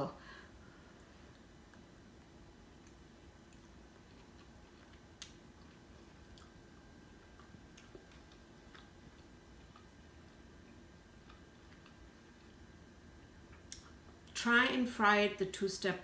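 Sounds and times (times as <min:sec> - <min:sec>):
chewing crispy fried chicken: 0:00.9 - 0:14.4.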